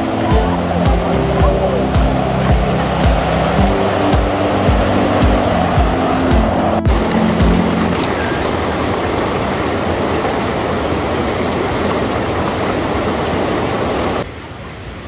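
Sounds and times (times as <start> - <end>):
water rushing over spillway: 0.0 - 15.0.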